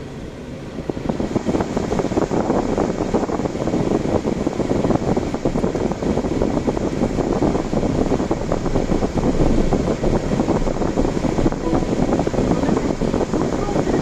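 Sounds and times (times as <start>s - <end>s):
road and wind noise inside car: 0.0s - 14.0s.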